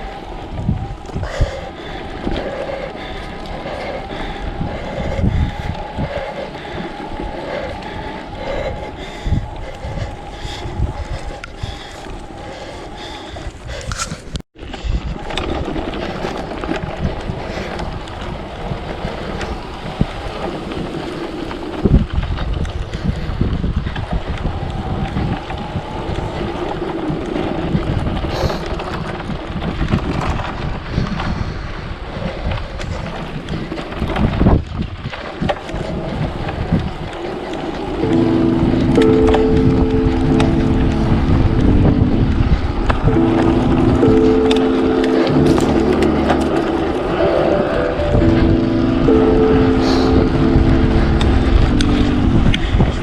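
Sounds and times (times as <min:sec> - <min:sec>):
gusty wind buffeting microphone: 0:00.0 - 0:53.0.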